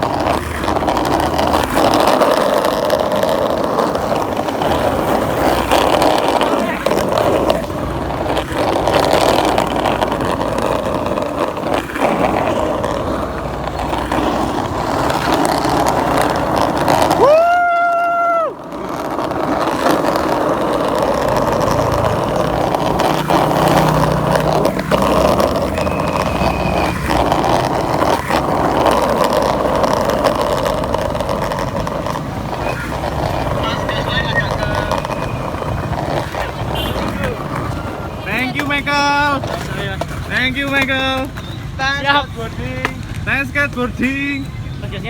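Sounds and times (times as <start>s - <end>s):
skateboard knocks: 0.0s - 41.7s, 42.8s - 44.6s
skateboard wheels rolling on pavement: 0.0s - 45.0s
traffic: 0.0s - 45.0s.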